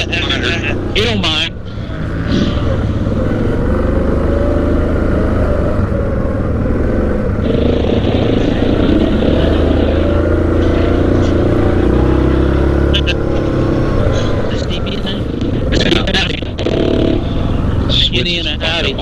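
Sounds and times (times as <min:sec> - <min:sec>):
atv engines running: 0:00.0 - 0:19.0.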